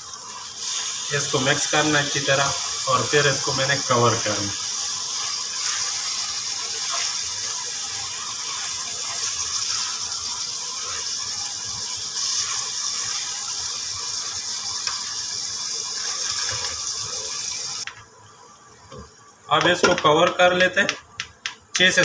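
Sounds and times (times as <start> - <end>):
food sizzling in a frying pan: 0.0 - 20.6.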